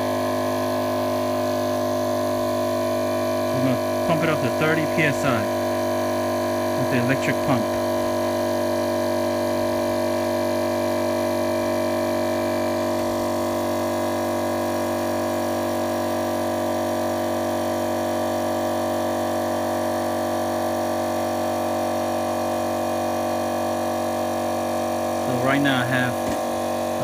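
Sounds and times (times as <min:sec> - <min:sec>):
electric air pump humming: 0:00.0 - 0:27.0.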